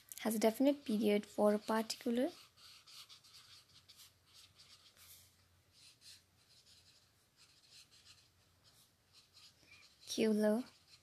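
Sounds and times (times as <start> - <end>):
marker scratching on paper: 0.3 - 11.0.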